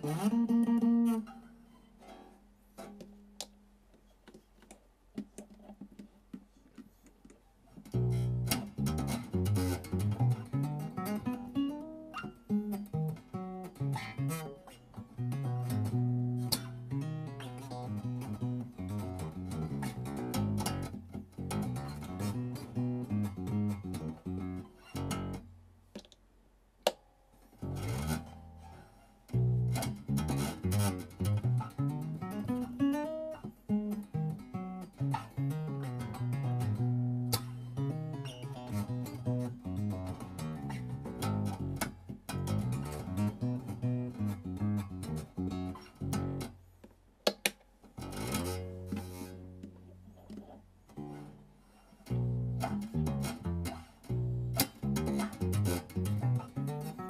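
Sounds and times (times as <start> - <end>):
electric bass plucked notes: 0.0 - 1.4, 7.8 - 25.5, 27.6 - 28.7, 29.3 - 46.6, 48.0 - 51.3, 52.0 - 57.0.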